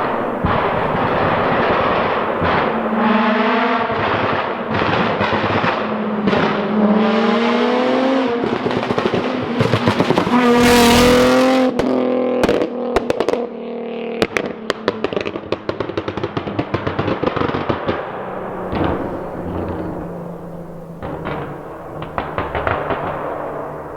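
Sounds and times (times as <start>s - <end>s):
exhaust pops and crackles: 0.0s - 6.9s, 8.3s - 23.9s
car engine revving: 0.0s - 15.3s, 17.2s - 23.9s.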